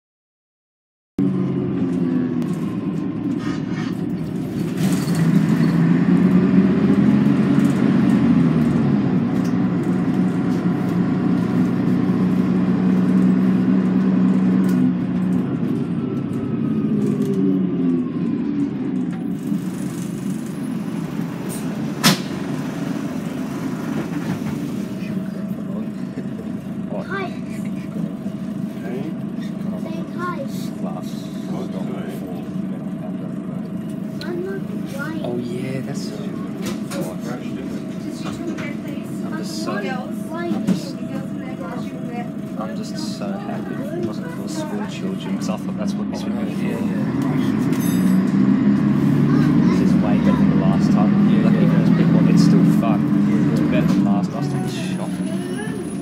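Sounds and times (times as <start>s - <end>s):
bus diesel engine accelerating: 1.2s - 56.0s.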